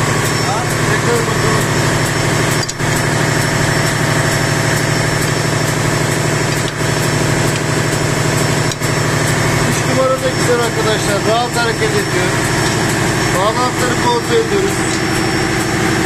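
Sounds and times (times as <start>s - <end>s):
engine room machinery drone: 0.0s - 16.0s.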